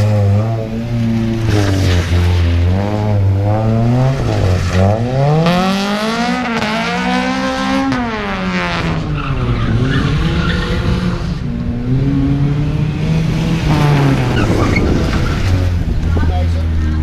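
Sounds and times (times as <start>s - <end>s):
tyres skidding and squealing: 0.0s - 6.6s, 8.0s - 12.2s, 13.0s - 17.0s
car engine revving hard: 0.0s - 15.9s.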